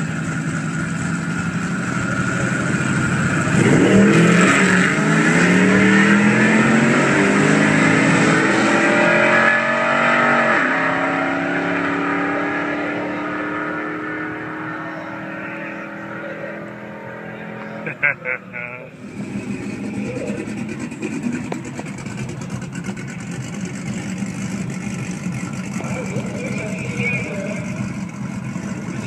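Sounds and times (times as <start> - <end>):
truck engine revving through gears: 0.0 - 29.0.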